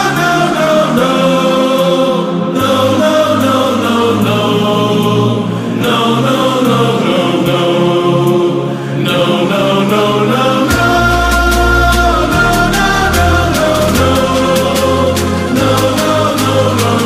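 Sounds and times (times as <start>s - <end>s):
music with sung vocals and beat: 0.0s - 17.0s.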